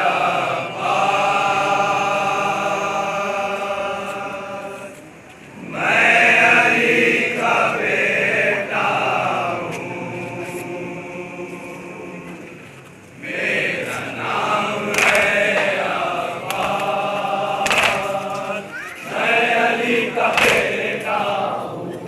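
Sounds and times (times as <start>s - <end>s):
men chanting in chorus: 0.0s - 4.9s, 5.6s - 12.5s, 13.2s - 22.0s.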